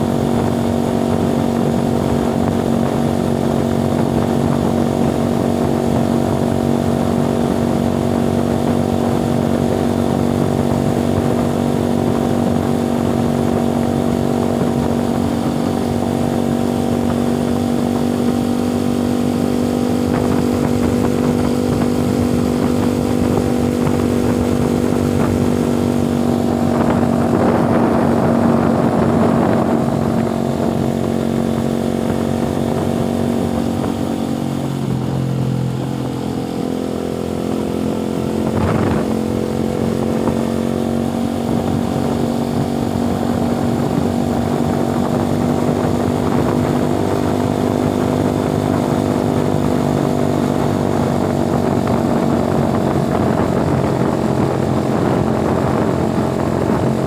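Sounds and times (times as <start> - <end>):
motorcycle engine running: 0.0 - 57.0
noisy rush: 0.0 - 57.0.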